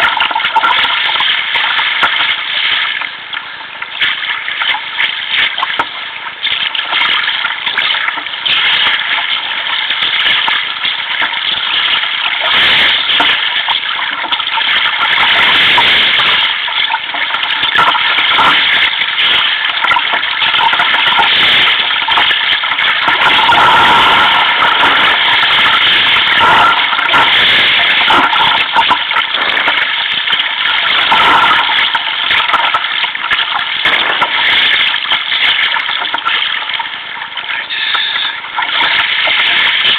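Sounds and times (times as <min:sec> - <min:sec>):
sea water splashing on kayak hull: 0:00.0 - 0:39.9.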